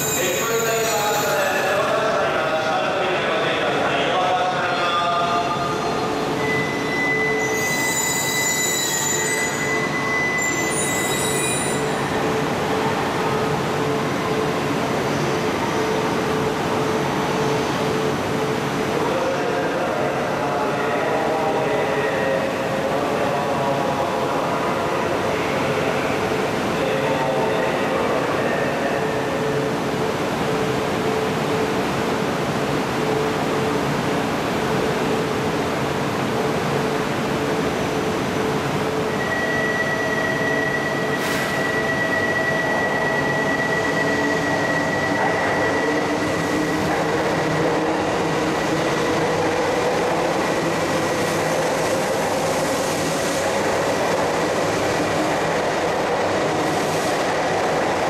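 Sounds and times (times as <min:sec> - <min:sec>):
train machinery hum: 0:00.0 - 0:58.0.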